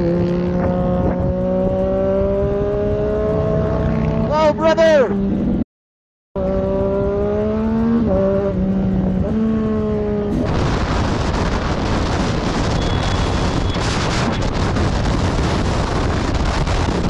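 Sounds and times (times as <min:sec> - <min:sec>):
wind rushing over microphone: 0:00.0 - 0:04.3, 0:06.4 - 0:17.0.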